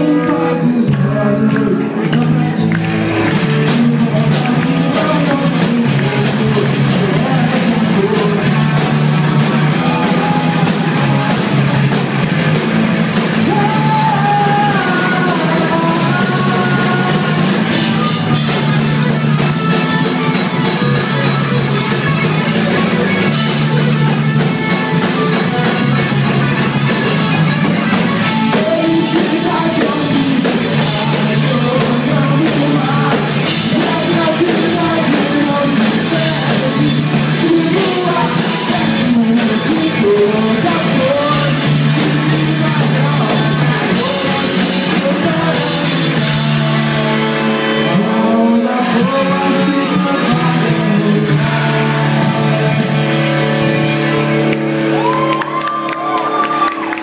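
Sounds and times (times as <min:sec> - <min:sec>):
lead singer singing: 0:00.0 - 0:54.3
bass guitar: 0:00.0 - 0:57.0
drum kit: 0:00.0 - 0:57.0
electric guitar: 0:00.0 - 0:57.0.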